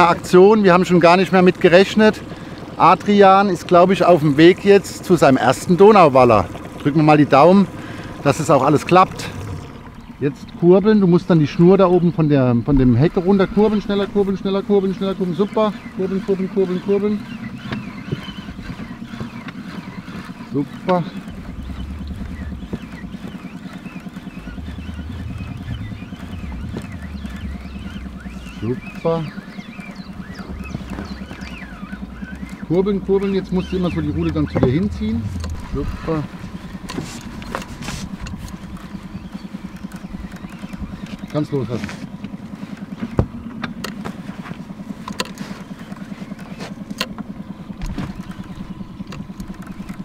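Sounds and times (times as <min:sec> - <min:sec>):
boat motor pulsing hum: 0:00.0 - 0:50.0
knocks and clicks on boat: 0:00.0 - 0:50.0.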